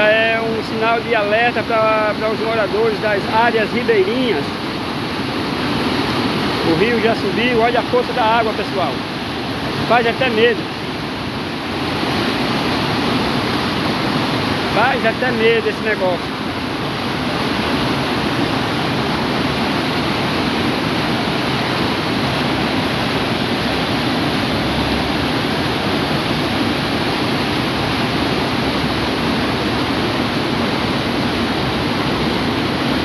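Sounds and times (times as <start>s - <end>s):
river rushing over rapids: 0.0s - 33.0s.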